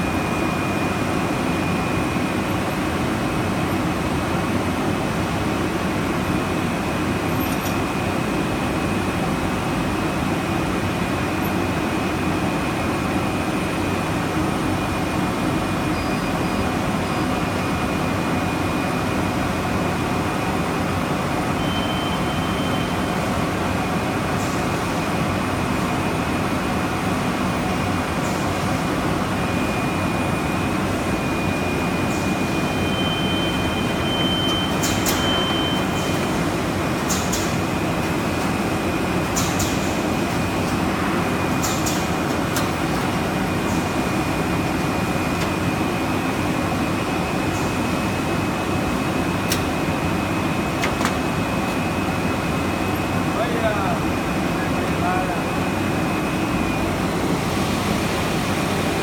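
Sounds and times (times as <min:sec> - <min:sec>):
factory machinery hum: 0:00.0 - 0:59.0
high machine whine: 0:05.4 - 0:59.0.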